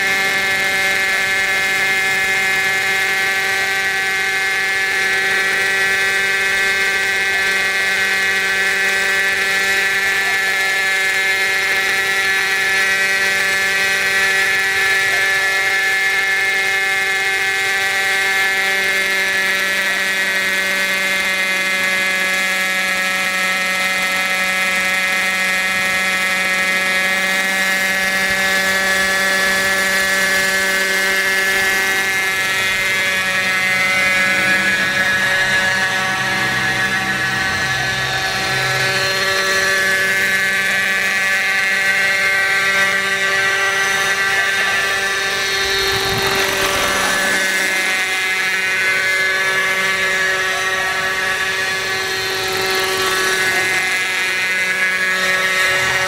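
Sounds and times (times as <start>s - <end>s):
model helicopter engine and rotor drone: 0.0s - 56.0s.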